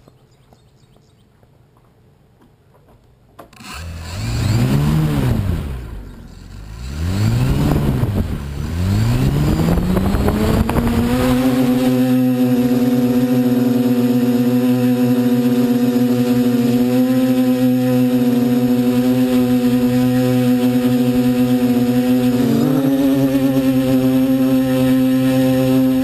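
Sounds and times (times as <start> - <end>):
drone motors whining: 3.6 - 26.0.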